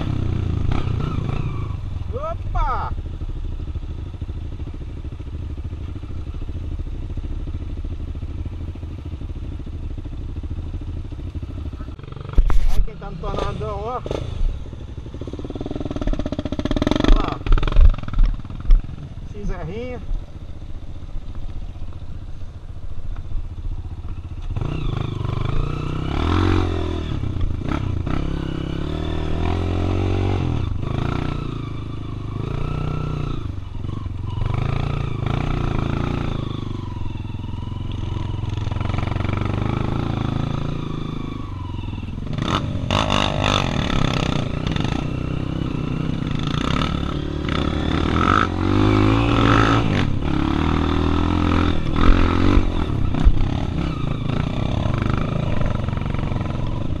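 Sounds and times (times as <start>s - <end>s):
dirt bike engine revving: 0.0s - 3.3s, 10.0s - 20.0s, 24.4s - 57.0s.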